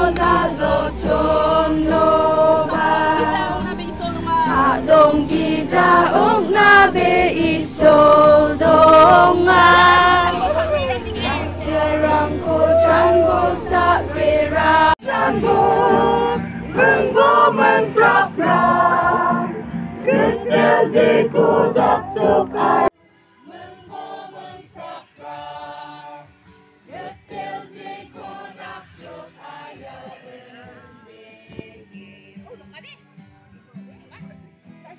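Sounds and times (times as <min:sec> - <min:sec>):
choir singing gospel: 0:00.0 - 0:32.4.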